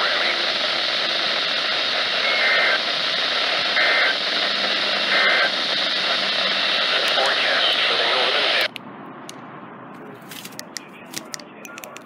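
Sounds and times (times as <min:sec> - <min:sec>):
radio static hiss: 0:00.0 - 0:08.8, 0:10.1 - 0:12.0.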